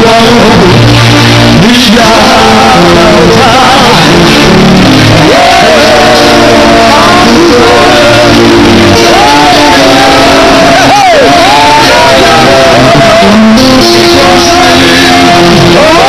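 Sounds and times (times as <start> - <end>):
voices singing: 0.0 - 16.0.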